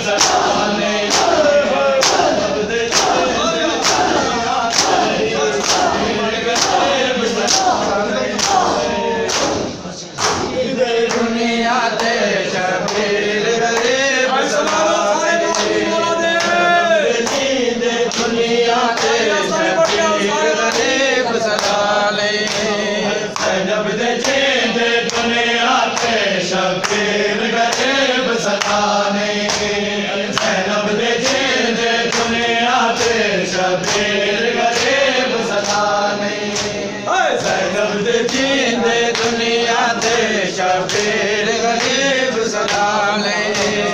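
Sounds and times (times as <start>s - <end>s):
men chanting: 0.0s - 43.9s
hands slapping chests: 0.1s - 11.3s, 12.0s - 13.1s, 13.7s - 14.0s, 14.6s - 15.8s, 17.2s - 23.6s, 24.2s - 27.1s, 27.7s - 43.9s.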